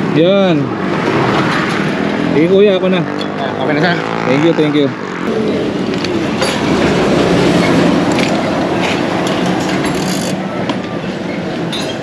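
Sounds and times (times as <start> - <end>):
heavy vehicle passing: 0.0 - 11.2.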